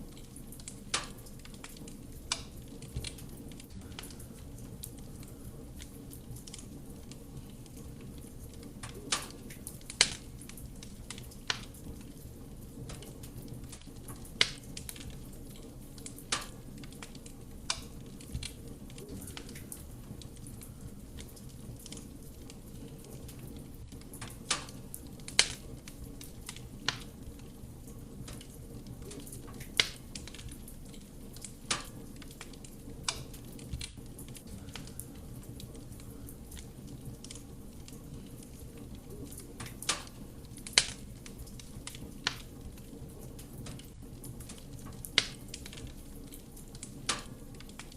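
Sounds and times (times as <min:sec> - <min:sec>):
logs crackling and popping: 0:00.0 - 0:47.9.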